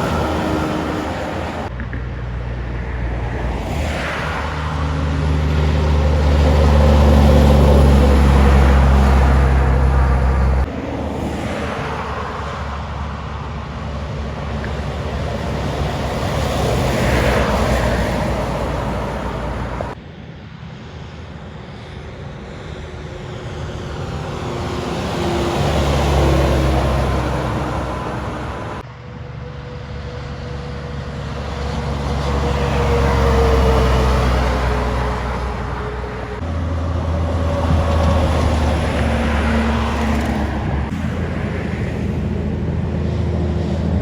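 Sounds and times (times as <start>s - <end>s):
heavy trucks driving past: 0.0s - 20.0s, 22.7s - 44.0s.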